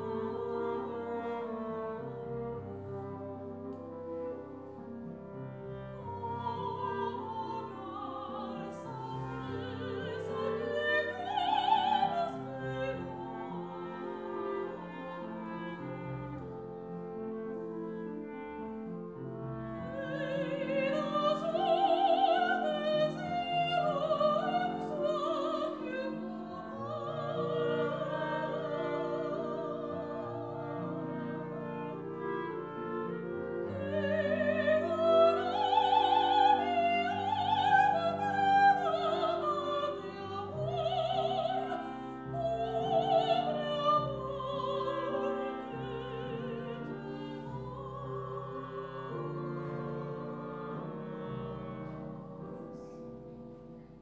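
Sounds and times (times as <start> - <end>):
soprano singing operatic: 0.0 - 53.2
clarinets bassoon and piano: 0.0 - 54.0.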